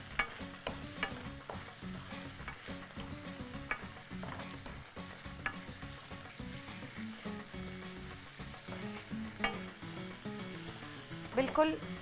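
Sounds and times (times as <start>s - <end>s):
chicken sizzling in a pan: 0.0s - 12.0s
utensil clicking against pan: 0.0s - 12.0s.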